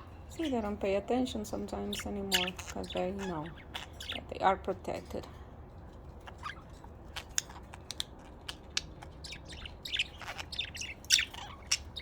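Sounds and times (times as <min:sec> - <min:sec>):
budgerigars chirping: 0:00.4 - 0:04.8, 0:06.1 - 0:12.0.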